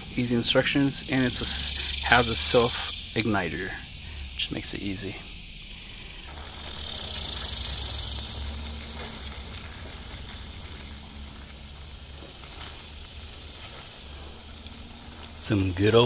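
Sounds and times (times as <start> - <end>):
beans sizzling in a pan: 0.0 - 16.0.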